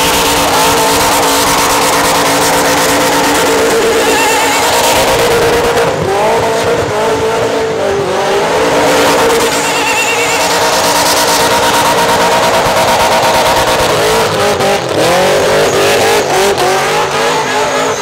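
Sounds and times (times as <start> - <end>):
car engine at high revs: 0.0 - 18.0.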